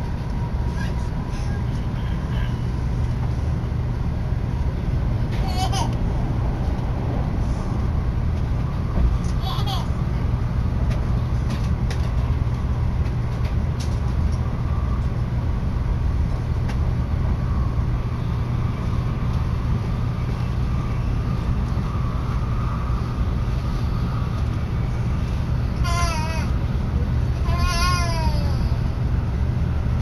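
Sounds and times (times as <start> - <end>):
train running at speed from inside: 0.0 - 30.0.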